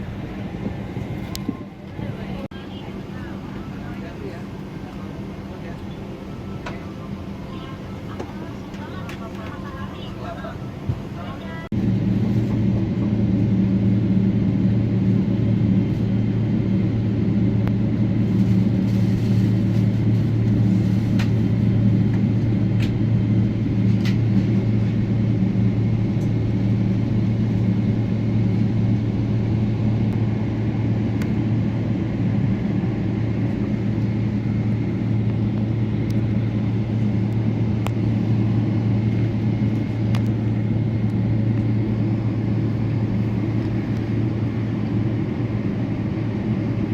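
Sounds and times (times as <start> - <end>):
airliner cabin drone: 0.0 - 46.9.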